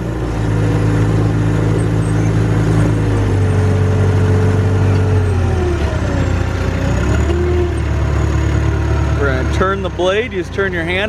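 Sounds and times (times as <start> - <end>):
bulldozer diesel engine drone: 0.0 - 11.0.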